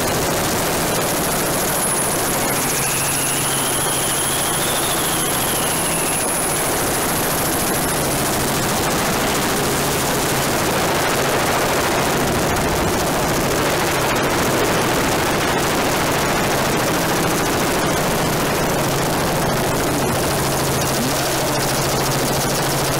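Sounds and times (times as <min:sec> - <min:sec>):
helicopter turbine and rotor noise: 0:00.0 - 0:22.9.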